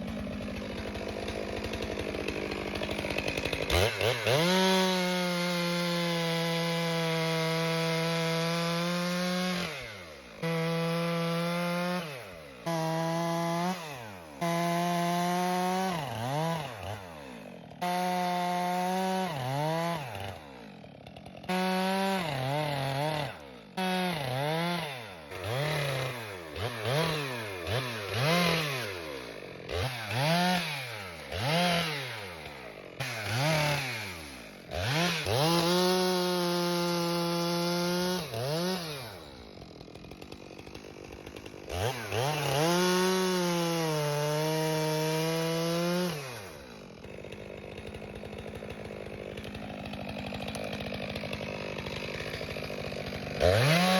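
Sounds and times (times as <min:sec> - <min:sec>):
chainsaw revving while cutting: 0:00.0 - 0:53.9.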